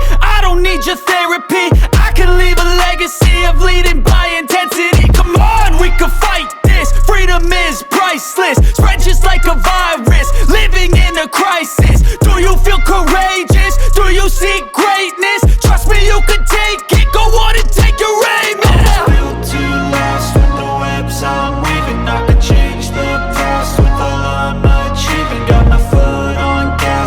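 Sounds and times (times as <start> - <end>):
hip-hop music with heavy bass: 0.0 - 27.0.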